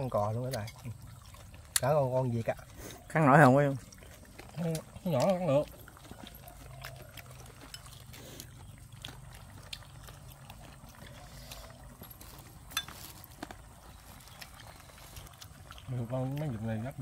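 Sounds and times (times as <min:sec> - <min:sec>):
people chewing: 0:00.0 - 0:17.0.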